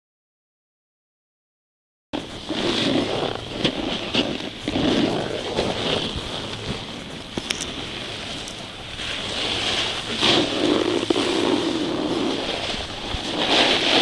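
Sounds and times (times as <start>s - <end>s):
skis hissing over snow: 2.2s - 14.0s
wind on microphone: 2.2s - 14.0s.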